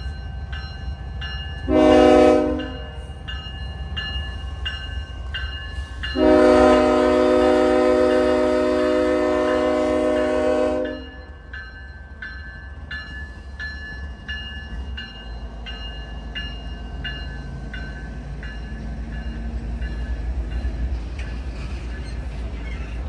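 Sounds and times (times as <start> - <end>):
freight train rumble: 0.0 - 23.0.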